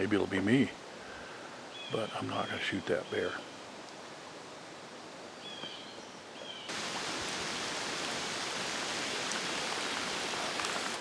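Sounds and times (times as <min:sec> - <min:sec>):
steady rain falling: 0:00.0 - 0:05.8, 0:06.7 - 0:11.0.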